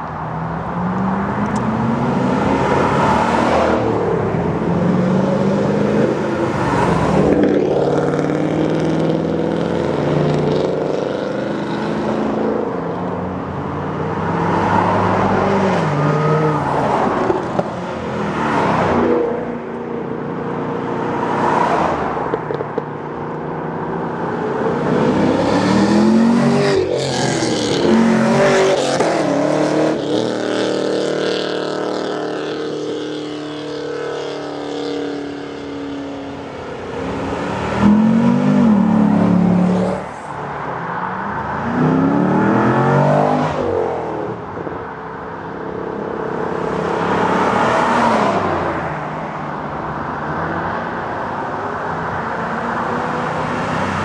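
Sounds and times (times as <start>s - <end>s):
cars revving past: 0.0s - 54.0s.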